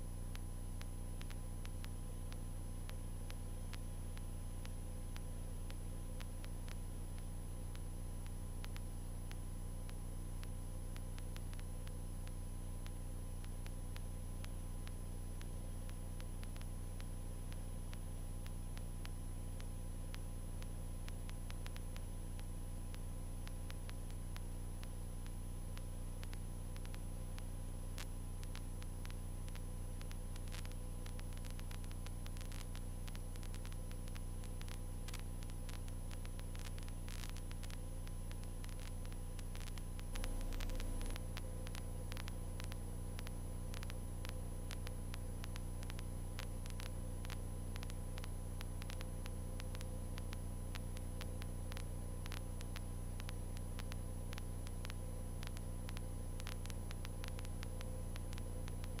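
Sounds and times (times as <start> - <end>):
static crackle: 0.0 - 59.0.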